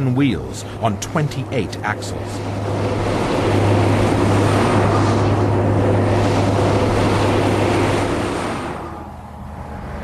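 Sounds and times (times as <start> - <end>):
truck engine drone: 0.0 - 10.0.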